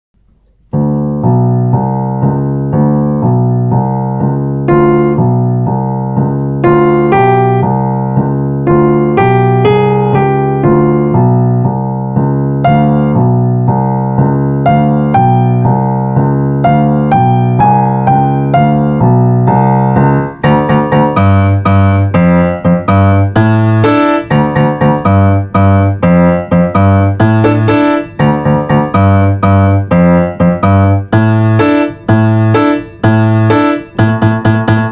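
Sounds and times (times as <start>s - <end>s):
grand piano playing: 0.2s - 34.9s.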